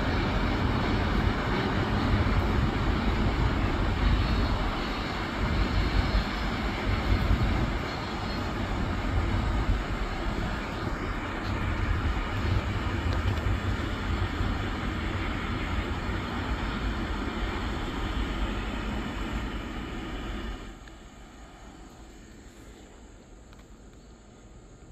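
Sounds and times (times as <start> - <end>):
train wheels rumbling on track: 0.0 - 24.9.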